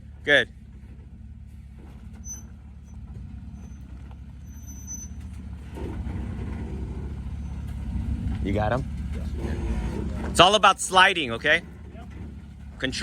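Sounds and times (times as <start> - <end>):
truck engine rumbling at low revs: 0.0 - 13.0.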